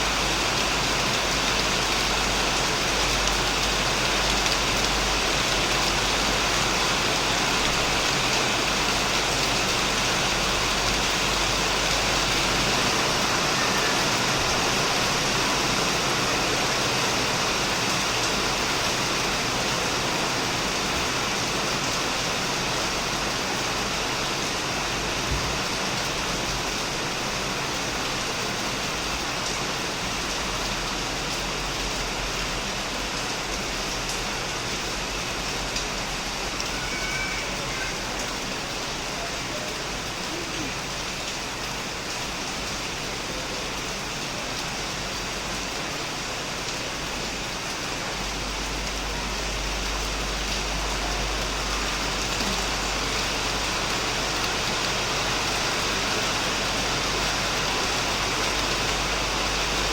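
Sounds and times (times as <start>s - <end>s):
heavy rain on a shed: 0.0s - 59.9s.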